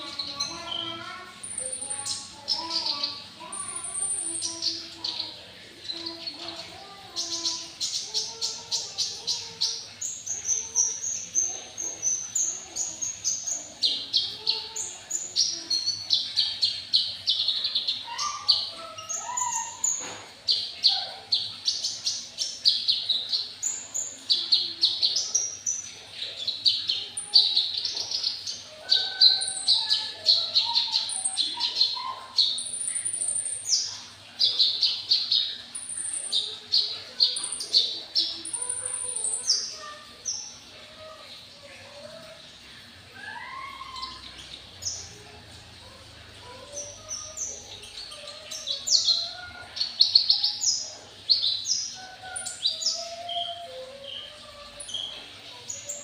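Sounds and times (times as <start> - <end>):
sunbird singing: 0.0 - 42.4, 43.2 - 56.0.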